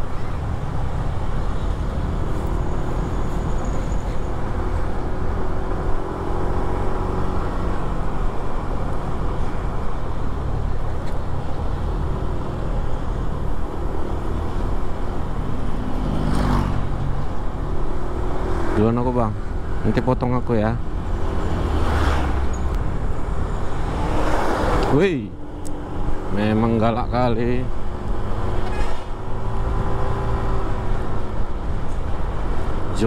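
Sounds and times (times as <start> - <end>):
road and tyre rumble: 0.0 - 33.0.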